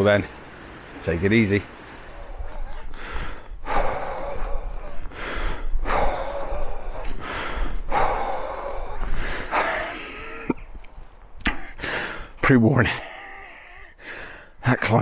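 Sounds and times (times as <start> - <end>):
man breathing heavily: 1.7 - 12.4, 13.0 - 14.6.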